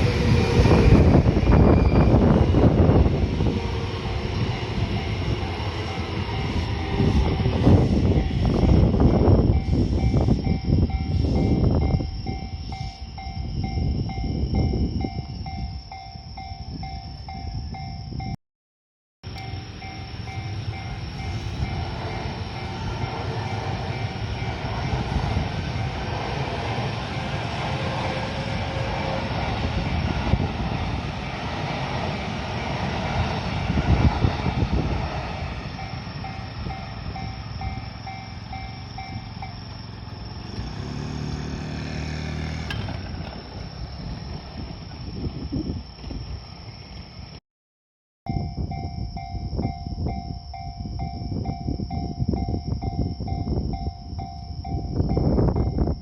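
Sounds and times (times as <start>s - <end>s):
crossing warning bell: 0.0s - 18.4s, 19.2s - 27.4s, 32.0s - 43.7s, 48.3s - 56.0s
train wheels rumbling on rails: 0.0s - 18.4s, 19.3s - 47.4s.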